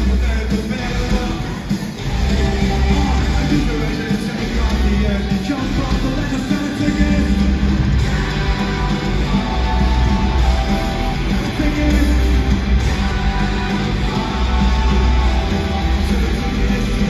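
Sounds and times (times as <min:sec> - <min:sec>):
live rock band: 0:00.0 - 0:17.0
person singing: 0:00.0 - 0:17.0.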